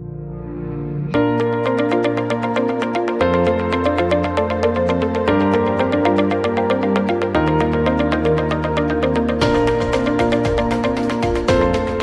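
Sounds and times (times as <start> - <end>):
electronic music with pulsing beat: 0.0 - 12.0.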